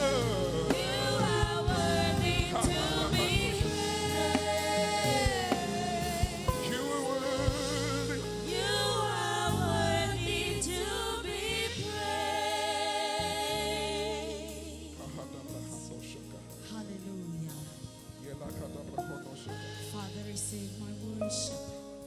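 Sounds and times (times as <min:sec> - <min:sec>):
sustained low chords: 0:00.0 - 0:21.8.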